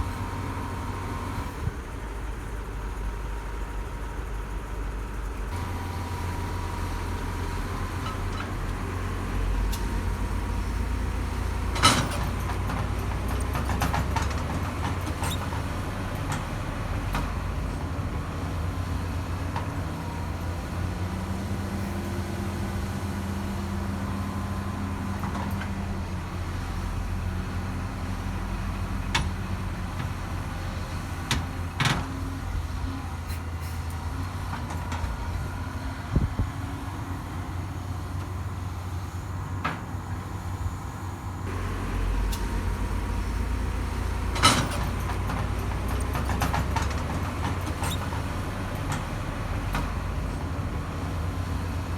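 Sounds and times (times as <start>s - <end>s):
heavy machinery diesel engine: 0.0s - 51.9s.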